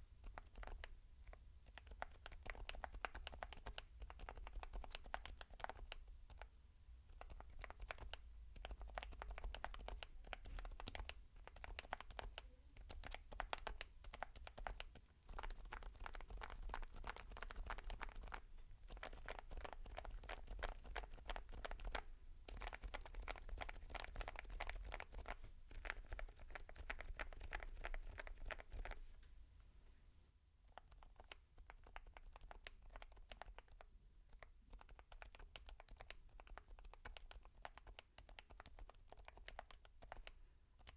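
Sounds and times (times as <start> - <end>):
quiet mechanical keyboard typing: 0.0 - 29.4, 30.6 - 40.9.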